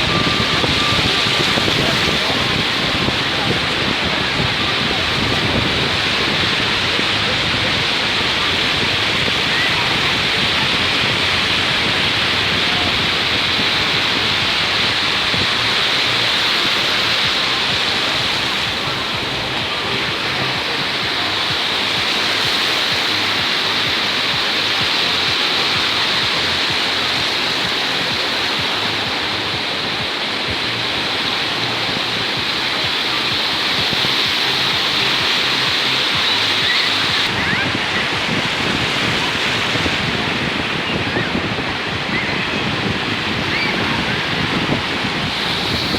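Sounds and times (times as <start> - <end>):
surf washing onto beach: 0.0 - 45.9.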